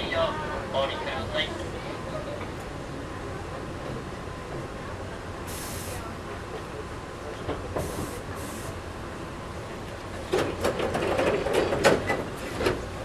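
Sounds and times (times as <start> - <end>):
train rumble inside car: 0.0 - 13.0.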